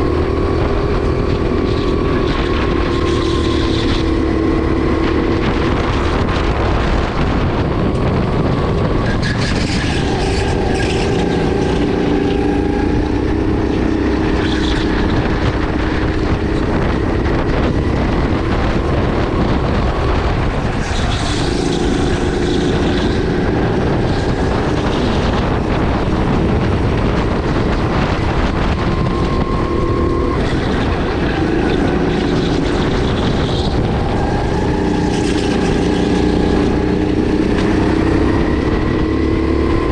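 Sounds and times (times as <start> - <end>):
kart engine revving: 0.0 - 39.9
wind and road noise: 0.0 - 39.9.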